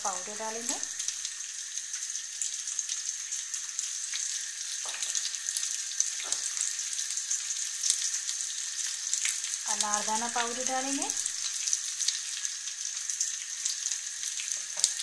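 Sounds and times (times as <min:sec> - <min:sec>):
potatoes sizzling in a pan: 0:00.0 - 0:15.0.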